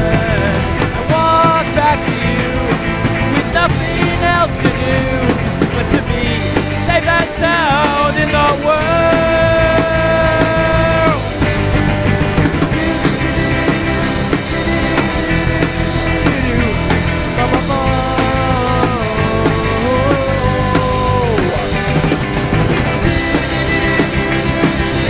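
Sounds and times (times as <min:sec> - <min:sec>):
bending lead melody: 0:00.0 - 0:25.0
indie rock band playing: 0:00.0 - 0:25.0.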